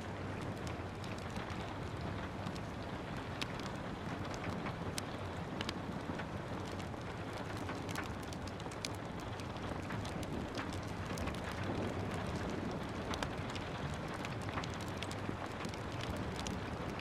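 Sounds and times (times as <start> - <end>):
steady rain hiss: 0.0 - 17.0
wood fire crackling and popping: 0.2 - 17.0.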